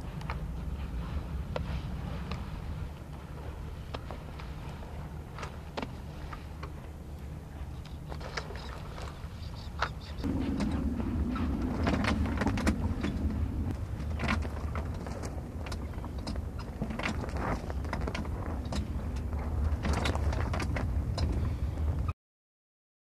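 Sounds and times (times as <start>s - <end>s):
steady low rumble: 0.0s - 22.1s.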